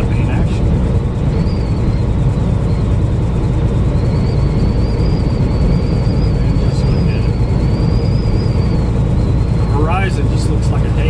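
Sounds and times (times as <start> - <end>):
high wind: 0.0 - 11.0
low rumble in truck cab: 0.0 - 11.0
faint wavering high whistle: 1.3 - 11.0.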